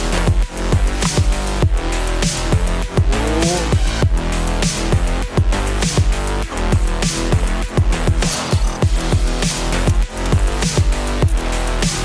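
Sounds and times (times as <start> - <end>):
dubstep electronic music: 0.0 - 4.0, 6.3 - 12.0.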